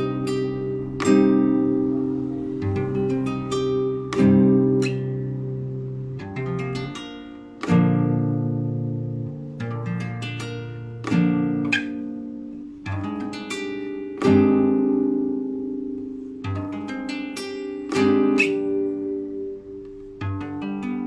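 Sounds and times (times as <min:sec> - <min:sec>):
guitar arpeggiated chords: 0:00.0 - 0:21.0.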